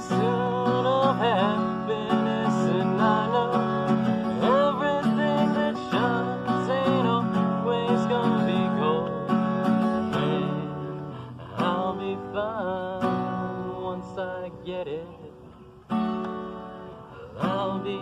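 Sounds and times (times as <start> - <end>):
acoustic guitar song: 0.0 - 18.0.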